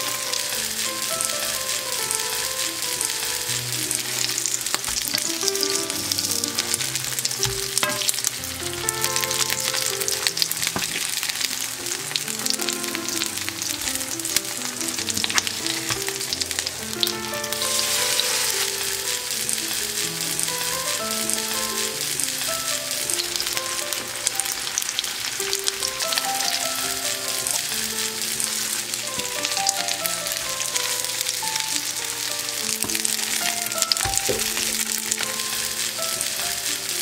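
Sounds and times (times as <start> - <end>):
light background music: 0.0 - 25.0, 25.6 - 37.0
food sizzling in oil: 0.0 - 37.0.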